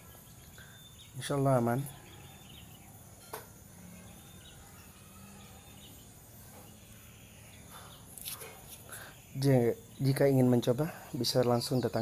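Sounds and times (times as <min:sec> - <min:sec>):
birds chirping: 0:00.0 - 0:12.0
insects: 0:00.0 - 0:12.0.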